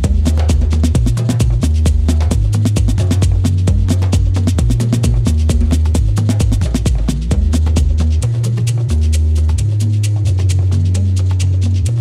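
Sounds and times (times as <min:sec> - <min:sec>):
hand drum fast rhythm: 0:00.0 - 0:12.0
steady low bass: 0:00.0 - 0:12.0.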